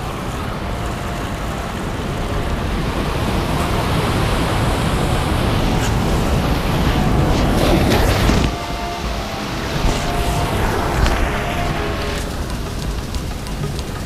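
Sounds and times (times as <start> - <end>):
waves crashing on rocks: 0.0 - 14.0.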